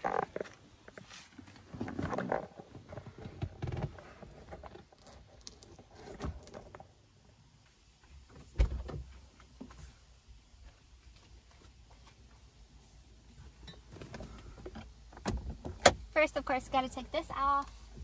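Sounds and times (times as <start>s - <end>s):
rustling and shuffling: 0.0s - 15.6s.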